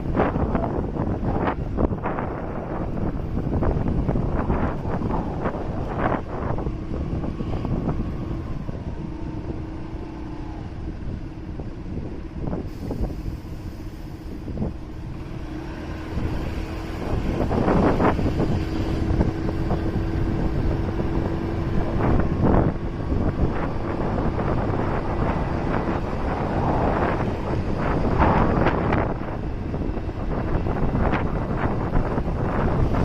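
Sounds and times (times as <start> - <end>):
motorcycle engine hum: 0.0 - 33.0
road noise: 0.0 - 33.0
wind buffeting microphone: 0.0 - 33.0.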